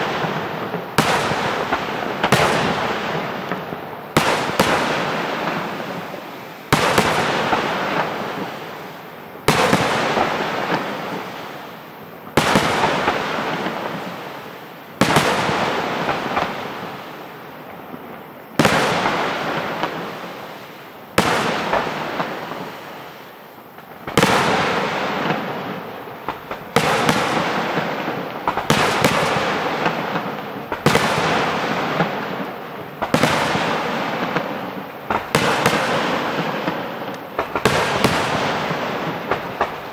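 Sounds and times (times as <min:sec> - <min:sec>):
firework bangs: 0:00.0 - 0:23.2, 0:23.8 - 0:39.9
firework crackle: 0:00.0 - 0:39.9.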